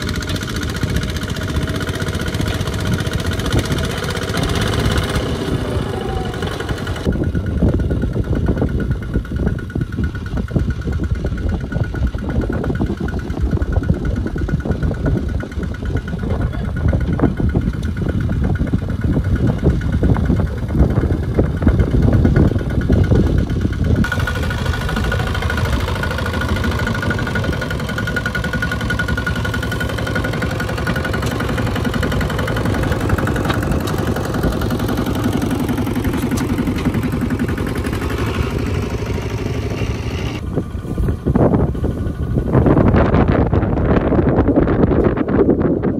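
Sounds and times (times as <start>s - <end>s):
diesel engine under heavy load: 0.0s - 45.9s.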